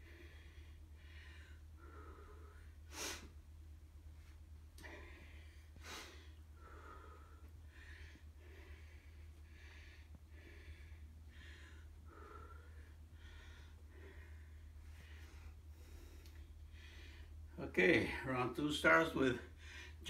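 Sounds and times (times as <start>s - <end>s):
man breathing hard: 0.0s - 3.4s, 4.8s - 17.6s, 19.5s - 20.0s.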